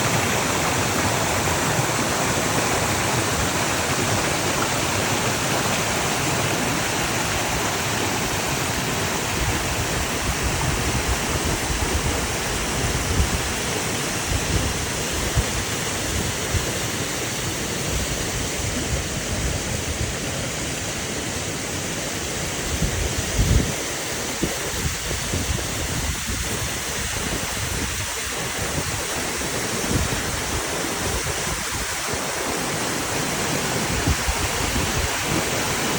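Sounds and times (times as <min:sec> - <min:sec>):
river and waterfall rushing: 0:00.0 - 0:35.9.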